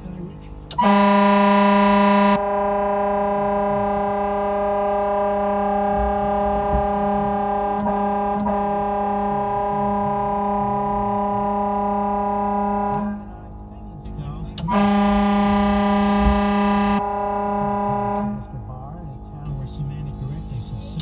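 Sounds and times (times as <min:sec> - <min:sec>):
air horn blast: 0:00.0 - 0:21.0.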